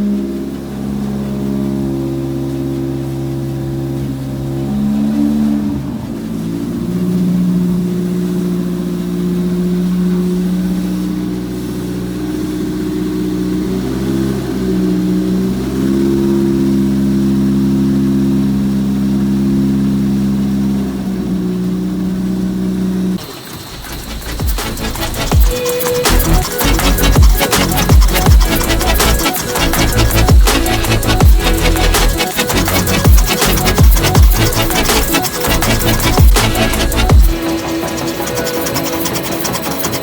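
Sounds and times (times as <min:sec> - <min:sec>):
petrol engine running: 0:00.0 - 0:40.0.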